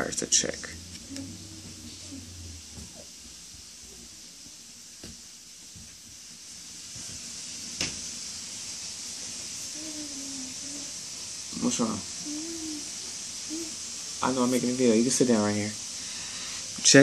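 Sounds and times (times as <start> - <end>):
high hiss of room noise: 0.0 - 17.0.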